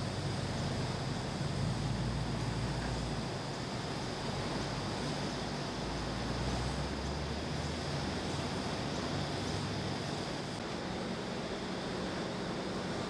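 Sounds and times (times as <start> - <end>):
air conditioning unit running: 0.0 - 13.0.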